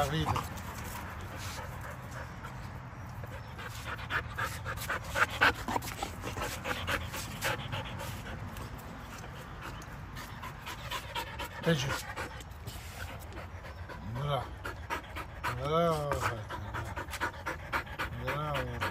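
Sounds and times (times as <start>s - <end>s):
dog panting: 0.0s - 18.9s.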